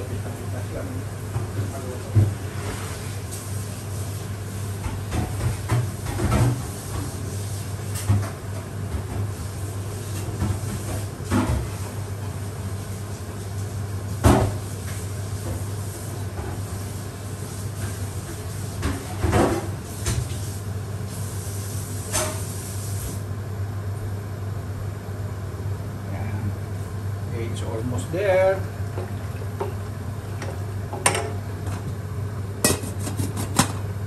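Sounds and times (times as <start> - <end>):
pot simmering on gas burner: 0.3 - 34.0.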